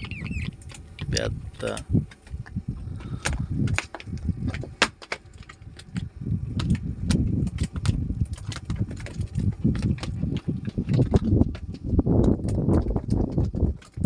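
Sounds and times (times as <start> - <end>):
sharp clicks and knocks: 0.0 - 14.0
uneven low rumble: 0.0 - 14.0.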